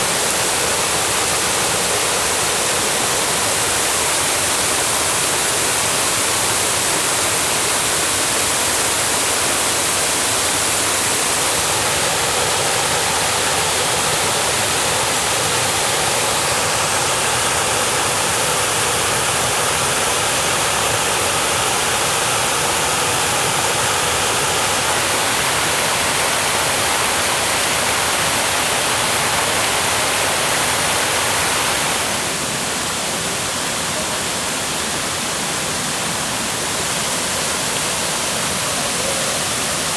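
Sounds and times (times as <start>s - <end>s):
water rushing over waterfall: 0.0s - 39.9s.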